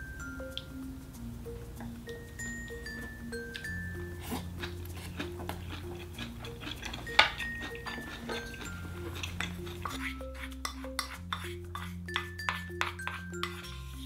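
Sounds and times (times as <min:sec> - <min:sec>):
light background music: 0:00.0 - 0:14.0
spoon clinking ceramic bowls: 0:00.0 - 0:14.0.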